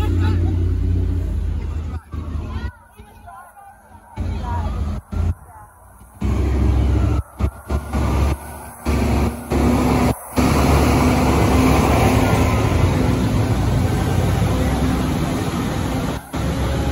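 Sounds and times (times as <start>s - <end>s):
vehicle engines rumbling: 0.0s - 16.9s.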